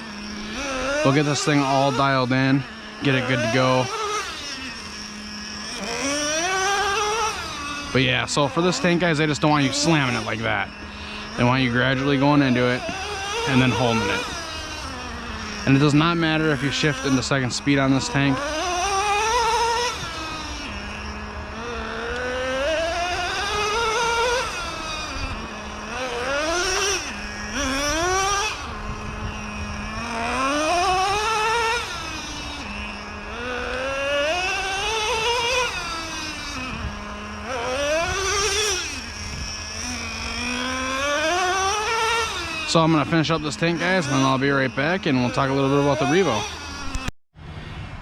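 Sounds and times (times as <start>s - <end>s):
nitro engine revving: 0.0s - 48.0s.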